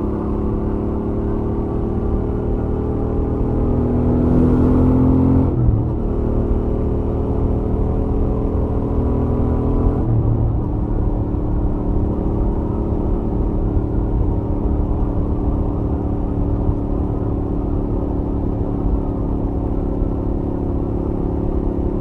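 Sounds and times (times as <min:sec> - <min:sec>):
motorcycle engine on highway: 0:00.0 - 0:22.0.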